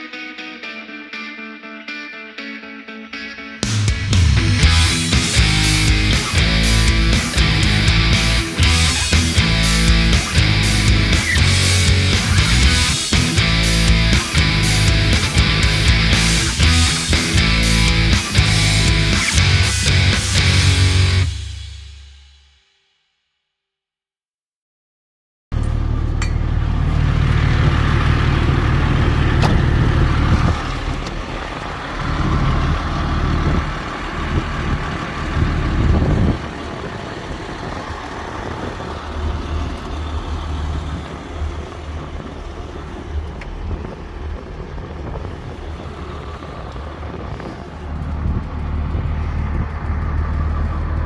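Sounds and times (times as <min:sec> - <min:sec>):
diesel engine droning: 0:03.6 - 0:22.2, 0:25.6 - 0:51.0.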